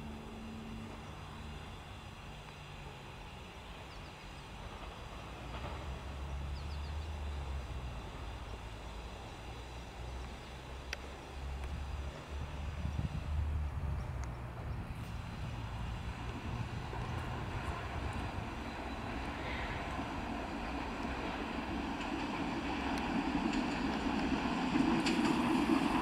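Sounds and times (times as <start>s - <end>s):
train locomotive rumble: 0.0s - 26.0s.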